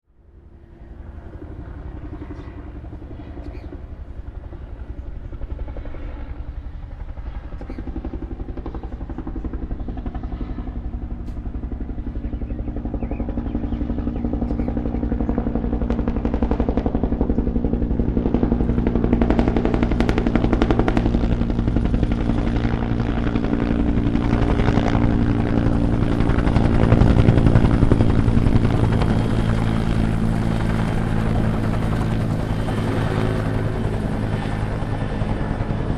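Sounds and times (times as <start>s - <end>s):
helicopter engine drone: 0.1s - 35.9s
helicopter rotor blades beating: 0.3s - 35.9s.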